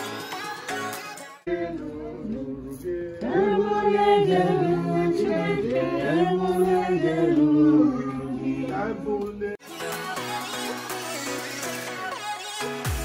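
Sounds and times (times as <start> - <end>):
group singing without instruments: 0.0 - 13.0.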